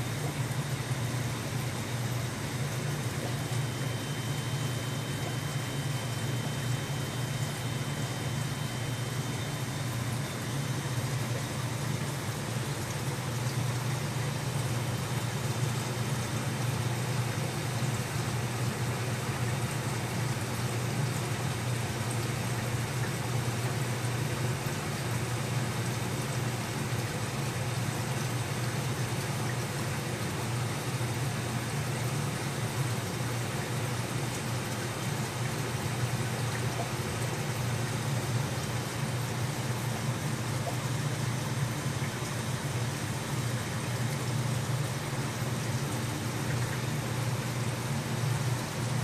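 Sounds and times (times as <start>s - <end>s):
aquarium filter pump humming: 0.0s - 49.0s.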